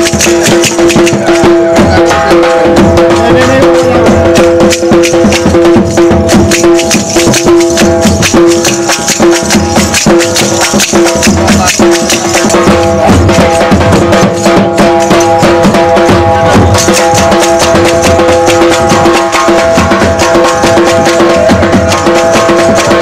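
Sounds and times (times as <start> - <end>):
fast busy drumming: 0.0 - 23.0
loud music with held notes: 0.0 - 23.0.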